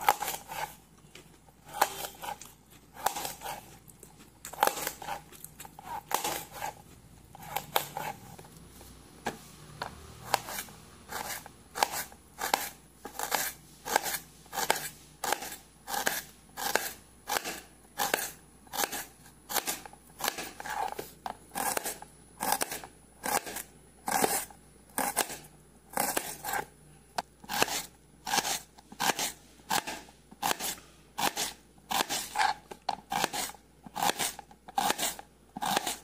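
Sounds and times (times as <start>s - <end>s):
knife slicing on cutting board: 0.0s - 0.8s, 1.7s - 3.7s, 4.5s - 8.3s, 10.2s - 26.7s, 27.5s - 36.0s.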